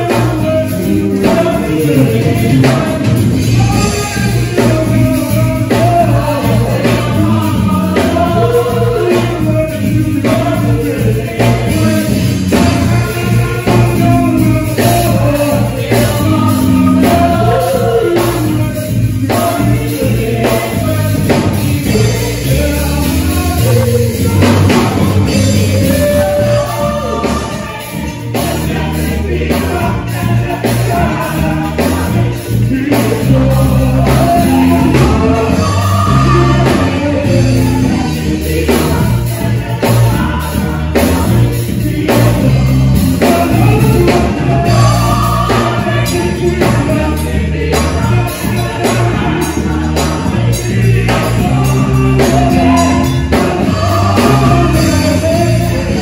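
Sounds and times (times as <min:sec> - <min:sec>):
bass line: 0:00.0 - 0:56.0
group singing: 0:00.0 - 0:56.0
instrumental backing: 0:00.0 - 0:56.0.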